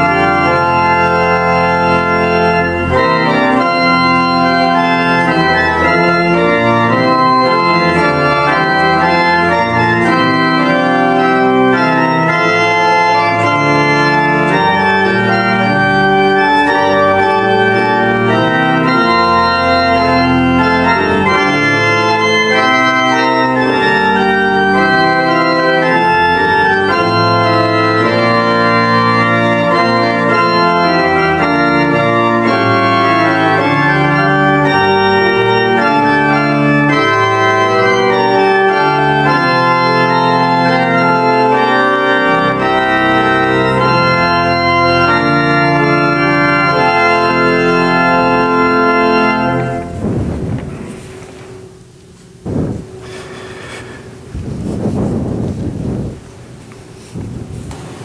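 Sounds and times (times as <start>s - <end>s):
pipe organ playing chords: 0.0s - 58.0s.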